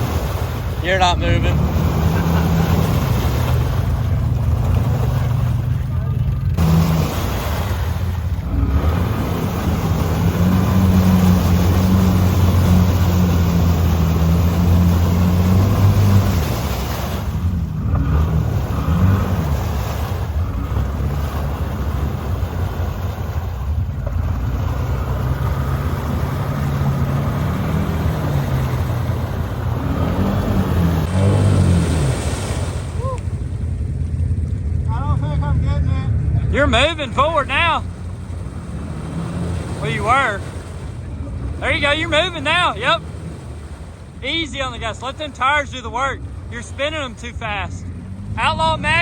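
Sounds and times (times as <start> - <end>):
tires spinning in mud: 0.0 - 49.0
vehicle engine revving: 0.0 - 49.0.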